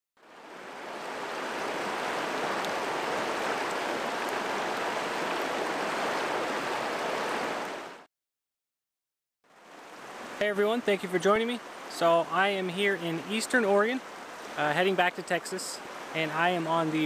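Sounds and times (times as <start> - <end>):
rocky river rushing: 0.3 - 8.0, 9.7 - 17.0.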